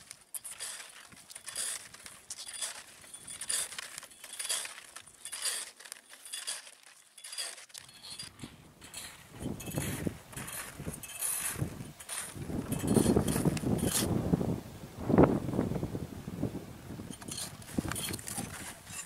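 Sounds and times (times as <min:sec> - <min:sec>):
skis and poles scraping snow: 0:00.0 - 0:14.4, 0:17.0 - 0:19.0.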